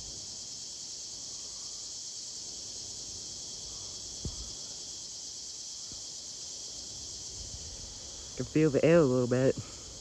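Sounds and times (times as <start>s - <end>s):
cicadas buzzing: 0.0s - 10.0s.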